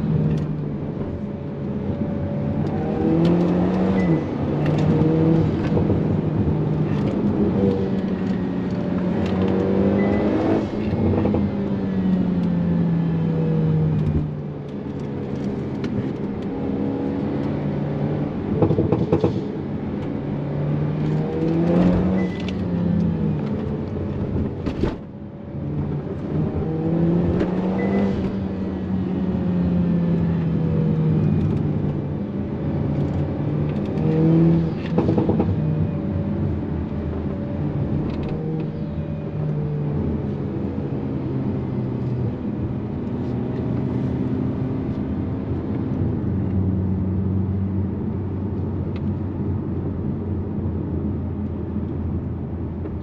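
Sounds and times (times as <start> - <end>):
car engine under hard driving: 0.0 - 53.0.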